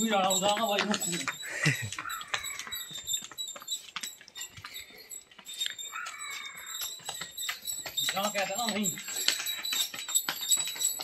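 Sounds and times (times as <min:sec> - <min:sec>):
hooves trotting on bricks: 0:00.0 - 0:11.0
running footsteps on bricks: 0:00.0 - 0:11.0.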